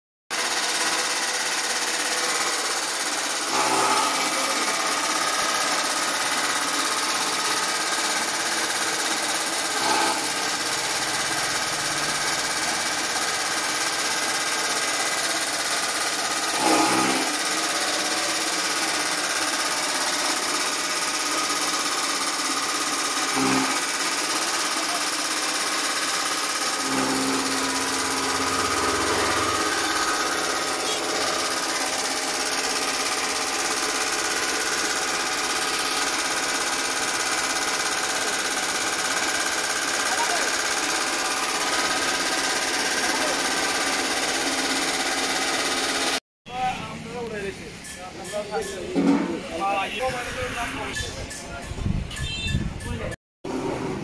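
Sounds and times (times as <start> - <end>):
electric chaff cutter chopping straw: 0.3 - 46.2, 53.4 - 54.0.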